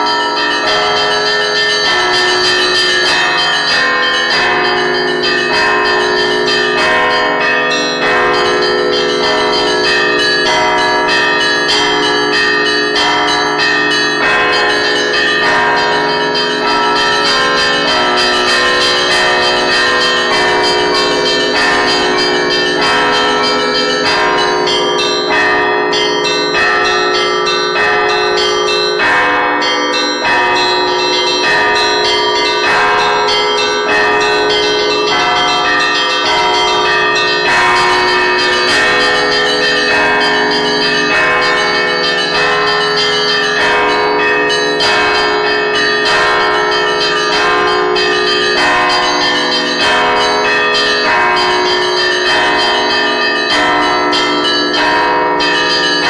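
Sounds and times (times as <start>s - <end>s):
deep bell tones: 0.0s - 56.0s
small bells struck rhythmically: 0.0s - 56.0s.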